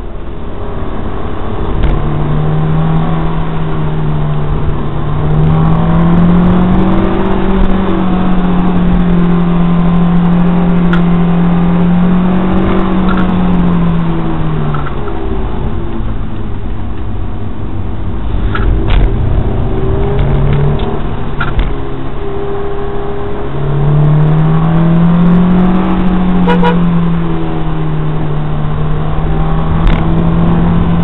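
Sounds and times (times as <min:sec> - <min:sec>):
car engine under load: 0:00.0 - 0:31.0
road and wind noise: 0:00.0 - 0:31.0.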